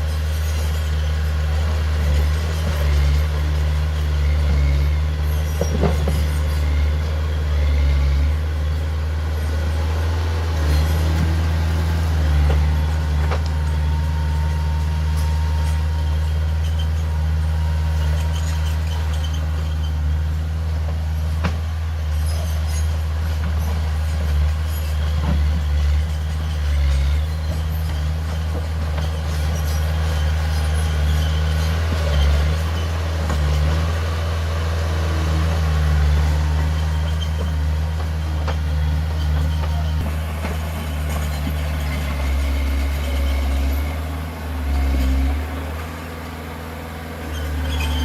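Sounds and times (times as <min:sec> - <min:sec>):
heavy diesel engine droning: 0:00.0 - 0:48.0.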